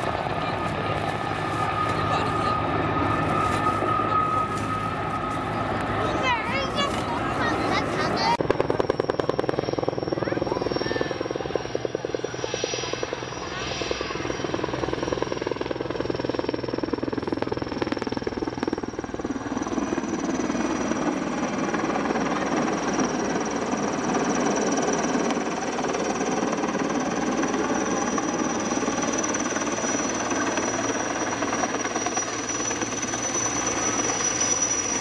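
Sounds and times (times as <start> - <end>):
helicopter rotor blades chopping: 0.0 - 35.0
high turbine whine: 0.0 - 35.0.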